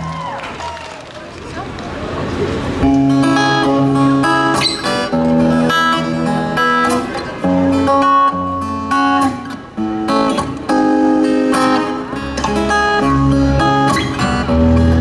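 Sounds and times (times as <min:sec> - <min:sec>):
strummed acoustic guitar: 0:02.8 - 0:15.0.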